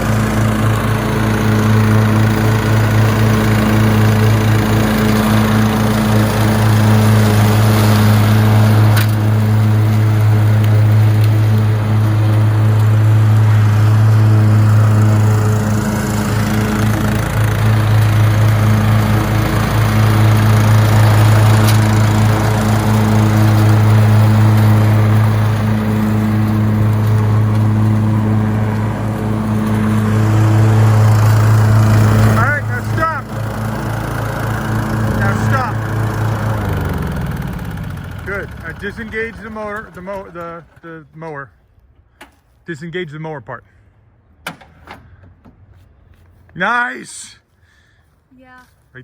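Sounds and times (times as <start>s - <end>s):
lawn mower engine running: 0.0s - 42.4s.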